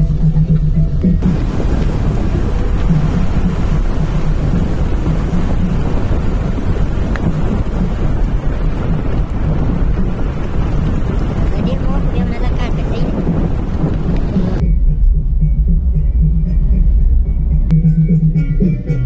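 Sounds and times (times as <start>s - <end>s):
wind buffeting microphone: 0.0s - 17.7s.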